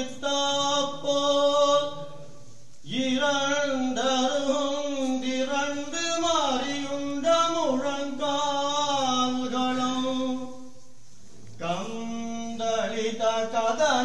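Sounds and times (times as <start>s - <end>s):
solo voice chanting: 0.0s - 10.9s, 11.5s - 14.0s.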